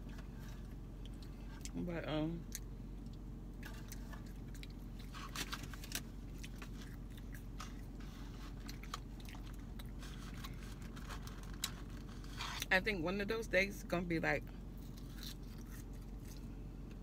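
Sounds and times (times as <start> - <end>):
chewing crunchy fries: 0.0 - 12.7, 14.7 - 17.0
steady low hum: 0.0 - 17.0.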